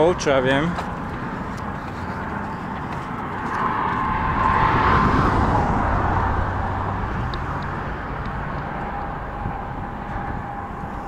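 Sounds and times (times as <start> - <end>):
background traffic noise: 0.0 - 11.0
vehicle passing: 0.0 - 11.0.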